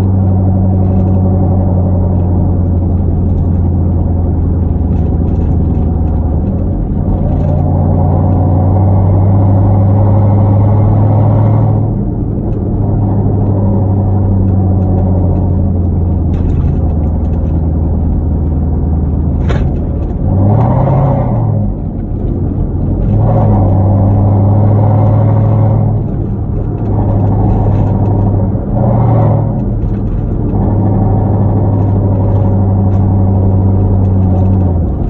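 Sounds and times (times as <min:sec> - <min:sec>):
car exhaust drone while driving: 0:00.0 - 0:35.0.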